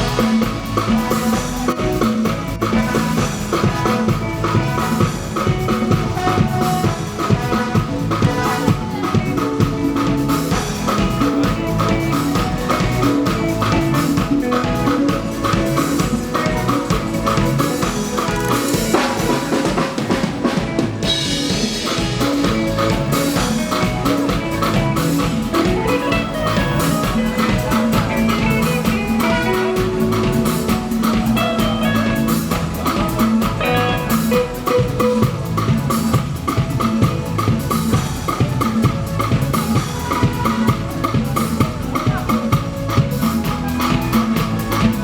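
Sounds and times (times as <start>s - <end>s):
drum kit: 0.0s - 45.0s
live band playing: 0.0s - 45.0s.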